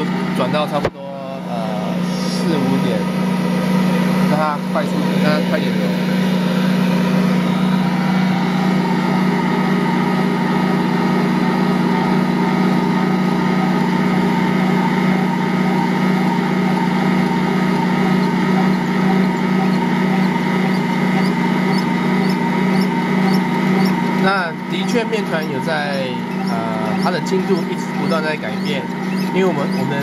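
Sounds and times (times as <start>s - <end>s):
stand mixer motor hum: 0.0s - 30.0s.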